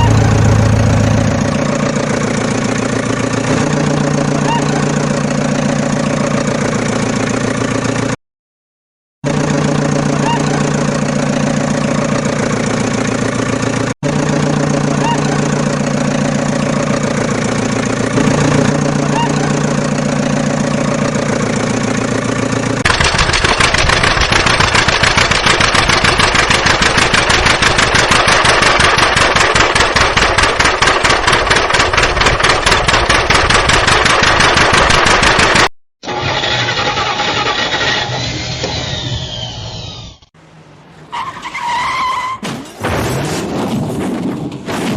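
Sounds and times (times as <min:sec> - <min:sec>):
engine running: 0:00.0 - 0:08.2, 0:09.2 - 0:41.1.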